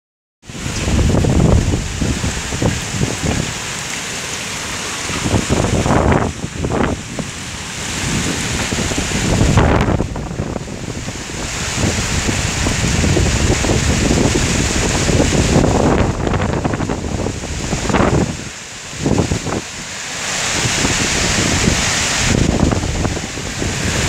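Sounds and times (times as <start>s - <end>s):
rain falling: 0.4s - 24.0s
strong wind gusting: 0.4s - 24.0s
wind buffeting the microphone: 0.5s - 4.0s, 4.7s - 24.0s.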